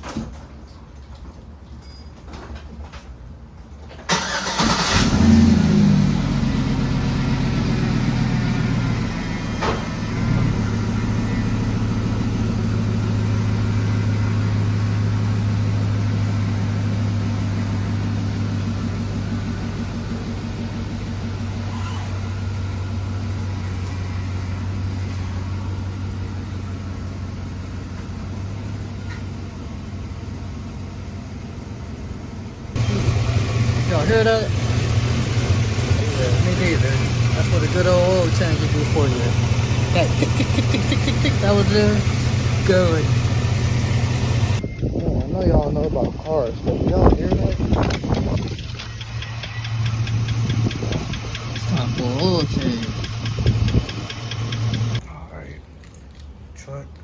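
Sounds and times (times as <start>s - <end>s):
truck engine starting and idling: 3.8s - 56.7s.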